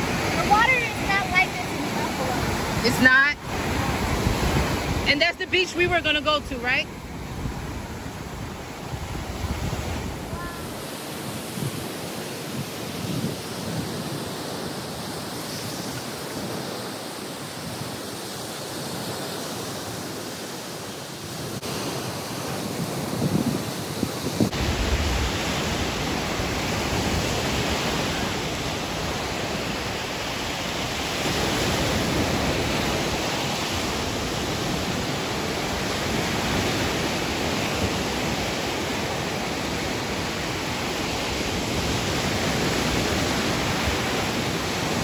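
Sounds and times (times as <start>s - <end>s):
surf washing on sandy beach: 0.0s - 45.0s.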